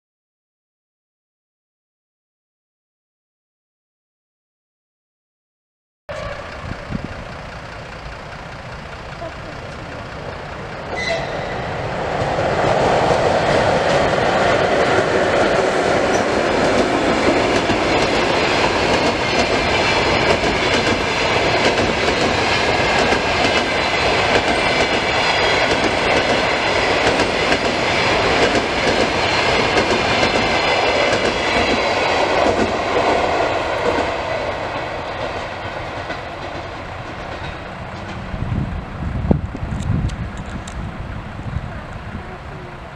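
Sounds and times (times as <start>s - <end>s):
train wheels clattering over rail joints: 6.2s - 41.3s.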